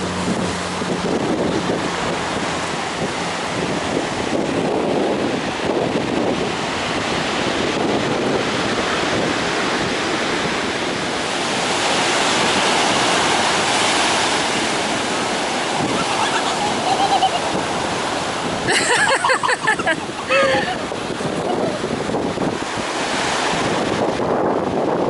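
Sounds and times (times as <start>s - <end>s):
ocean surf breaking on beach: 0.0s - 25.0s.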